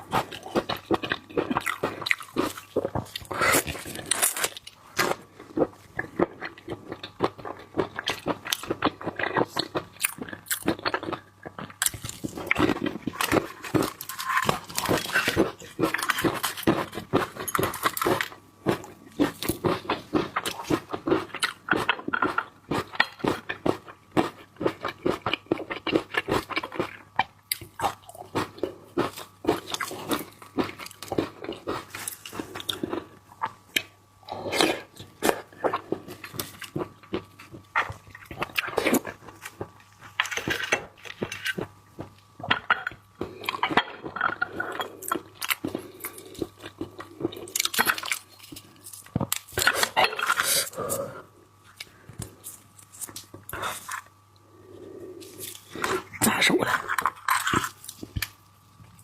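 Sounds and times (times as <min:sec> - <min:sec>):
crunching and wet chewing: 0:00.0 - 0:59.0.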